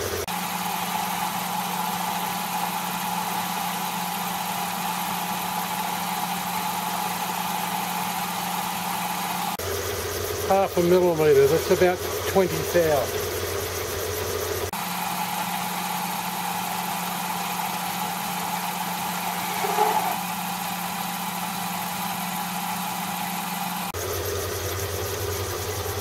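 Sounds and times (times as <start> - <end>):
metal lathe motor hum: 0.0 - 26.0.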